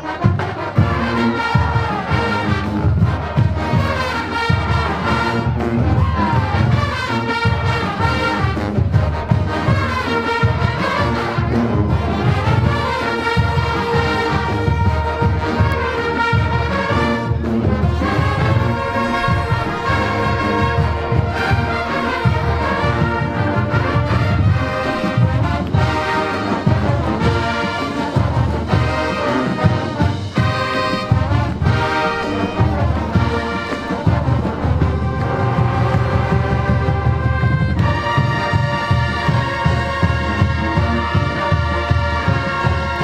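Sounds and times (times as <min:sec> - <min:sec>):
brass section playing chords: 0:00.0 - 0:43.0
drumline beats: 0:00.0 - 0:43.0.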